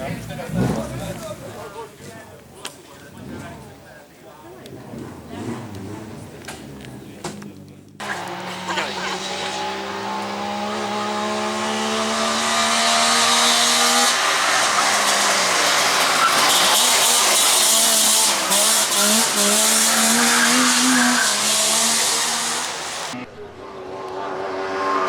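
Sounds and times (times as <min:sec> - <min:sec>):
rally car engine pulling hard: 0:00.0 - 0:01.6, 0:04.7 - 0:25.0
tyre and road noise: 0:00.0 - 0:25.0.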